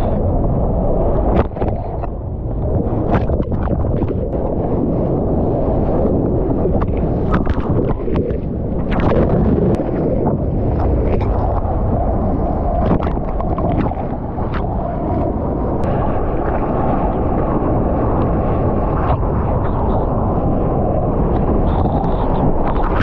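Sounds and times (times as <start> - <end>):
surf water rushing and splashing: 0.0 - 23.0
wind buffeting microphone: 0.0 - 23.0.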